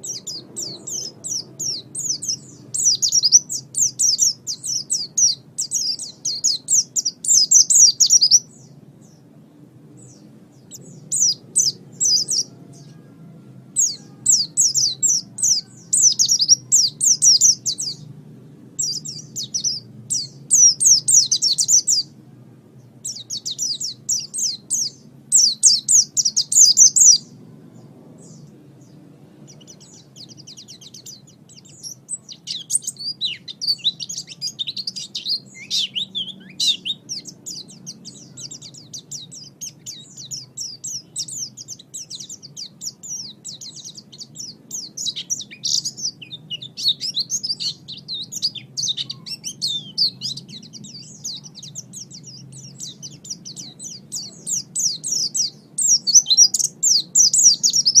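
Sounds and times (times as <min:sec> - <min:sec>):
songbird trilling: 0:00.0 - 0:22.2, 0:22.8 - 0:58.0.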